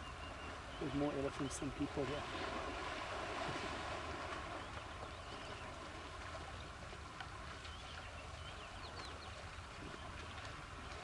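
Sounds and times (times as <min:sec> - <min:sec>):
birds chirping faintly: 0:00.0 - 0:03.0, 0:04.3 - 0:11.0.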